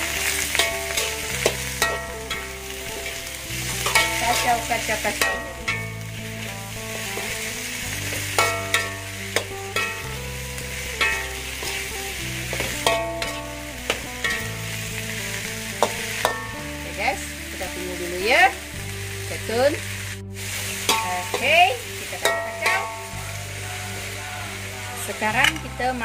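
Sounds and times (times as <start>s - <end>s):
ladle scraping a wok: 0.0s - 17.7s, 18.5s - 25.8s
vegetables sizzling in a wok: 0.0s - 26.0s.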